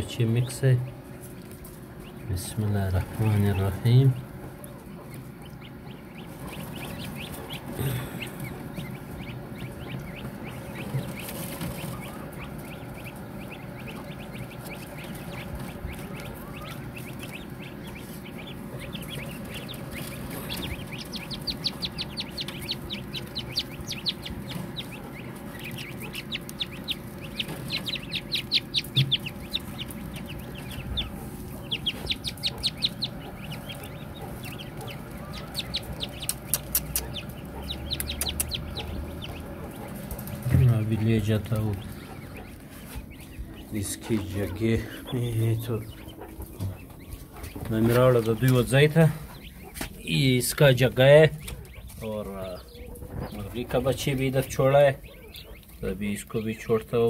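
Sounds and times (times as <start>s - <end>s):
chicks cheeping: 0.0s - 57.0s.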